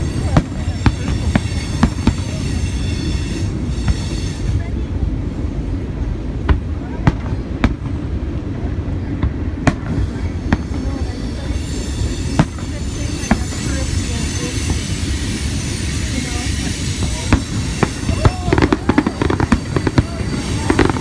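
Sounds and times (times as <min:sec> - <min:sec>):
fireworks bangs: 0:00.0 - 0:04.3, 0:06.4 - 0:08.3, 0:09.1 - 0:21.0
steady low rumble: 0:00.0 - 0:21.0.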